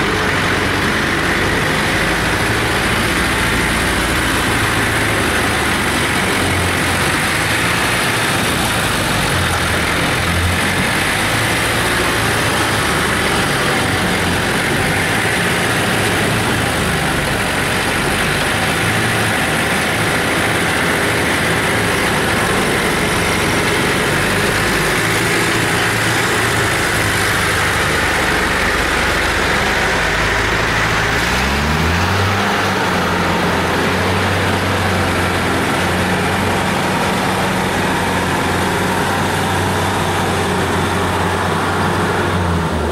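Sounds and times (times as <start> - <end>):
combine harvester engine running: 0.0 - 42.9.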